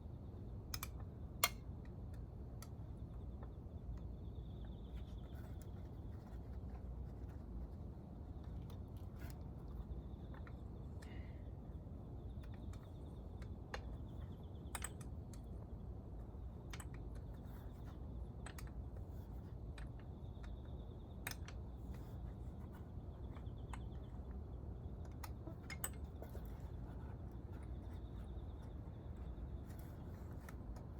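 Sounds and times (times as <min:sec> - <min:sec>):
low steady rumble: 0:00.0 - 0:30.9.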